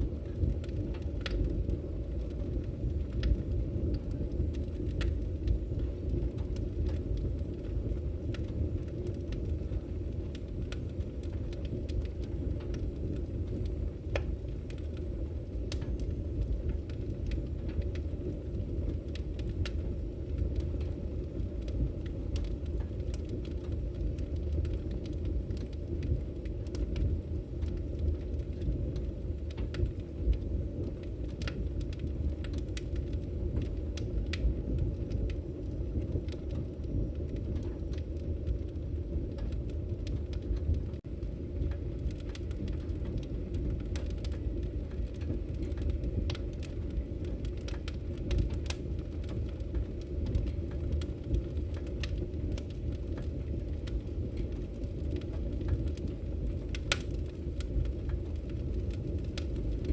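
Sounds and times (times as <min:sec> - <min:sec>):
fire crackles and pops: 0:00.0 - 0:59.9
low rumble of flames: 0:00.0 - 0:59.9.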